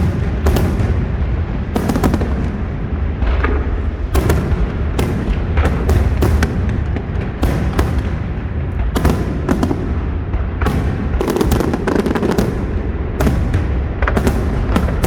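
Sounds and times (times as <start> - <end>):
continuous low rumble: 0.0 - 15.0
firework shell bangs: 0.0 - 15.0.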